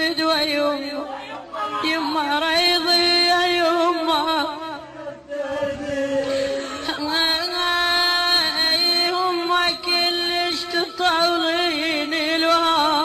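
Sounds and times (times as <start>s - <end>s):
woman chanting lament: 0.0s - 13.0s.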